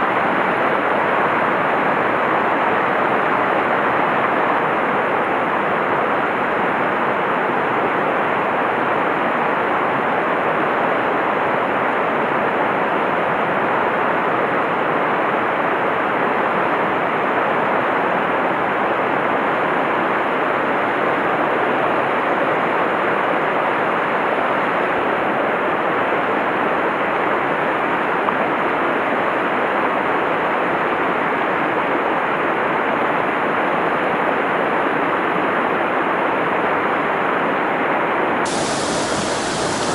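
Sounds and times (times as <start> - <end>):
mountain stream rushing over boulders: 0.0 - 39.9.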